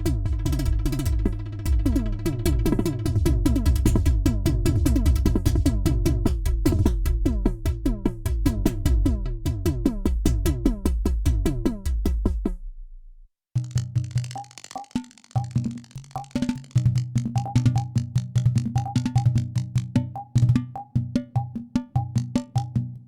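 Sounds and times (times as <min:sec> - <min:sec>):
synthesized drum kit rhythm: 0:00.0 - 0:12.6, 0:13.6 - 0:20.9.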